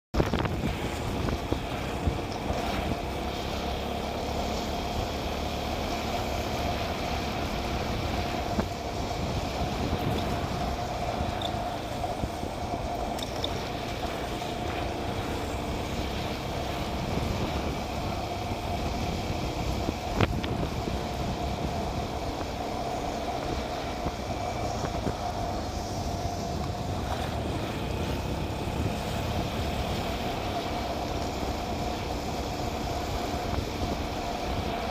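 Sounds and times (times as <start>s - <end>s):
road and wind noise: 0.0s - 34.9s
motorcycle engine running: 0.1s - 34.9s.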